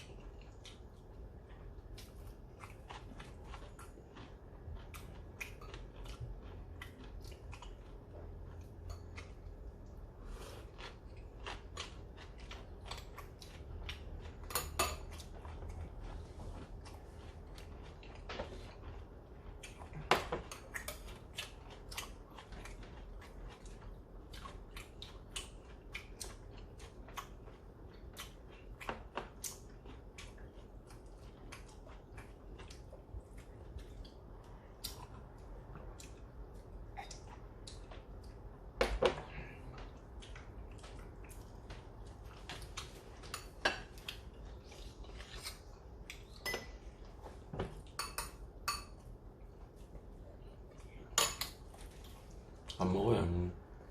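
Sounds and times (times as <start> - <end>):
people chewing: 0.0 - 53.9.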